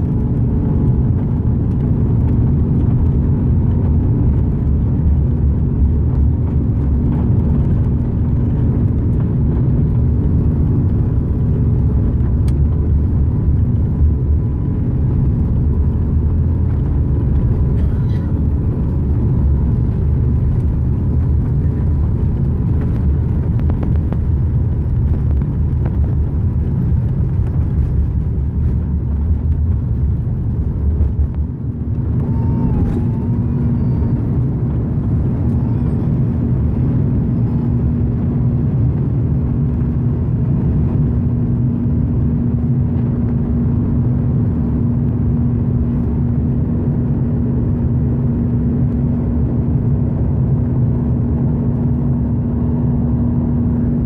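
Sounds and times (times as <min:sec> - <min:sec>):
jet engines at takeoff thrust: 0:00.0 - 0:54.0
wheels rumbling on runway: 0:00.0 - 0:54.0.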